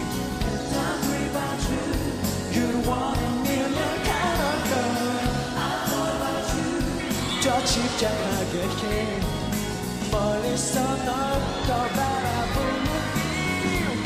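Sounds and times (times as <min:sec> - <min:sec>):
up-tempo live pop music: 0:00.0 - 0:14.0.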